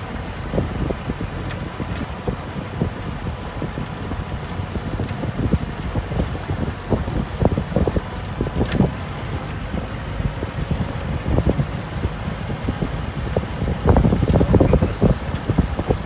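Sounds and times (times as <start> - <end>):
jeep engines and tyres on gravel: 0.0 - 16.0
wind buffeting microphone: 0.0 - 16.0.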